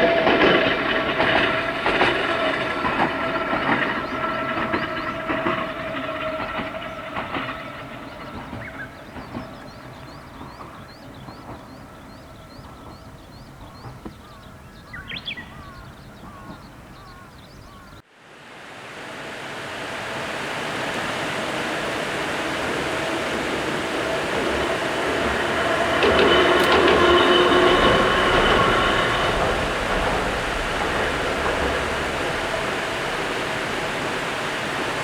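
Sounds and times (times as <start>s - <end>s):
birds chirping: 0.0s - 18.0s, 20.6s - 35.0s
electric train rumbling: 0.0s - 35.0s.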